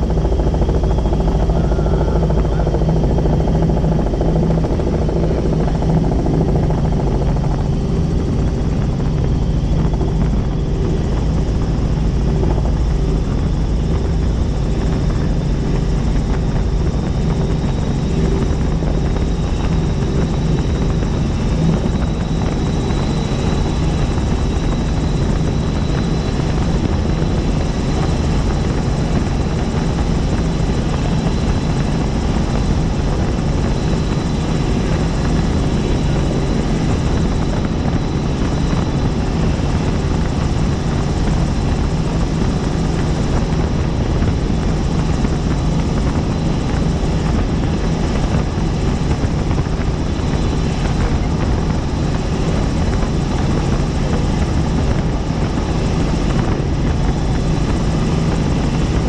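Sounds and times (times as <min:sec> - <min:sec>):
helicopter rotor and turbine noise: 0:00.0 - 0:59.0
high turbine whine: 0:00.0 - 0:59.0.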